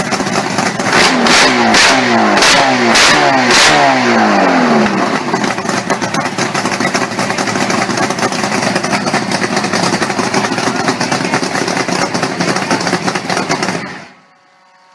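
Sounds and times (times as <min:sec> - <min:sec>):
engine running steadily: 0:00.0 - 0:14.4.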